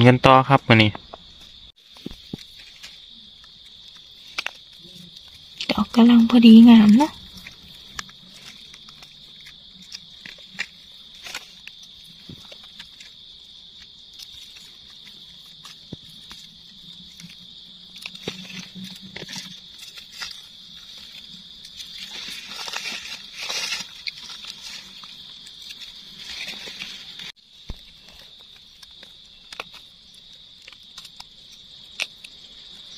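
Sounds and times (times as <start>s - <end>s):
insects droning: 0.0s - 32.9s
dry leaves rustling: 1.2s - 32.9s.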